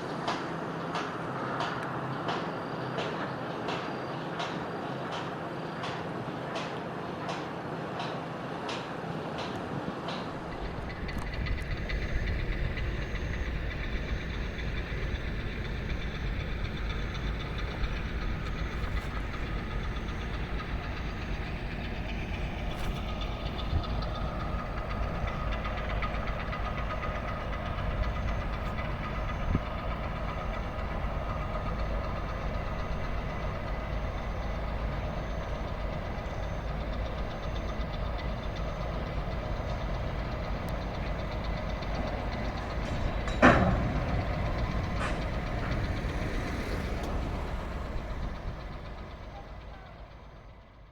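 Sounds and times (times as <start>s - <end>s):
heavy machinery diesel engines: 0.0s - 50.9s.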